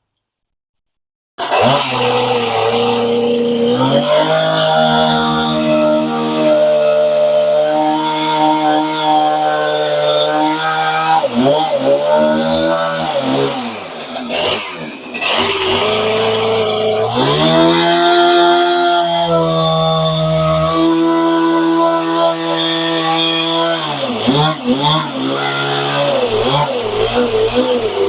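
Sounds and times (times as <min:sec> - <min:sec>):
small gas engine revving: 0:01.4 - 0:28.0.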